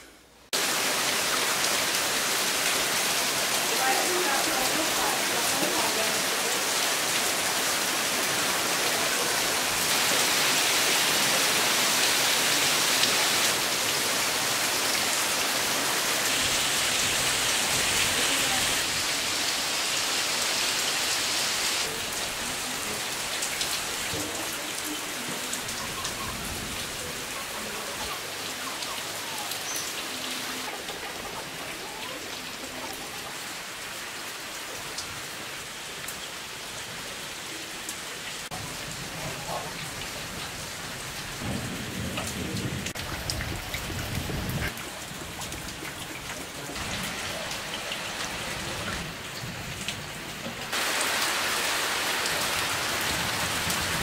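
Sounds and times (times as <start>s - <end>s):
rain on a tile roof: 0.0s - 54.0s
water streaming off eaves: 0.5s - 54.0s.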